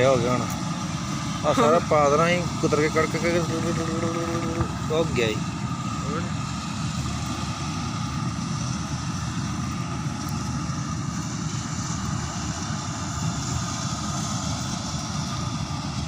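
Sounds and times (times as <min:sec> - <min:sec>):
farm machinery engine rumbling: 0:00.0 - 0:14.6
faint steady whine: 0:00.0 - 0:16.0.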